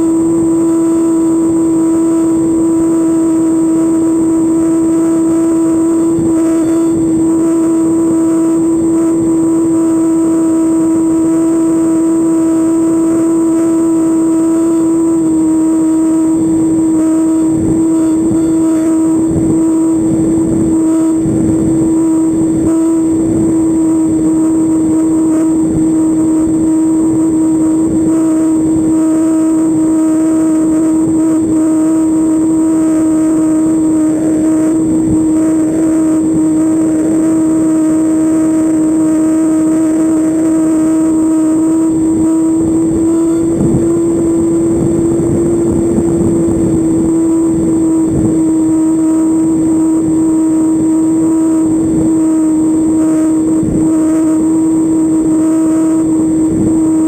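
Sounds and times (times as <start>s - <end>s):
model airplane engine and propeller: 0.0s - 57.0s
wind on microphone: 0.0s - 57.0s.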